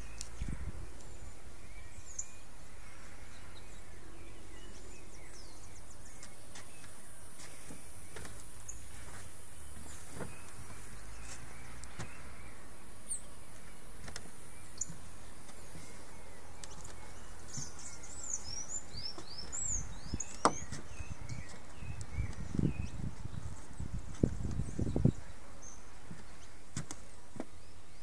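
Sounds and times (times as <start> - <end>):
bird chirps: 0.0 - 9.0, 9.6 - 26.8.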